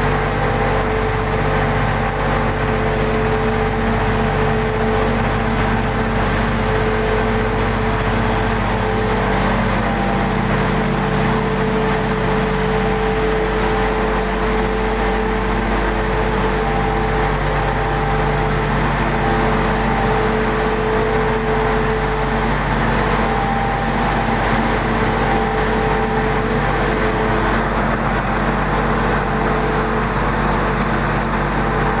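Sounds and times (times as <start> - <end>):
flour mill machinery droning: 0.0 - 32.0.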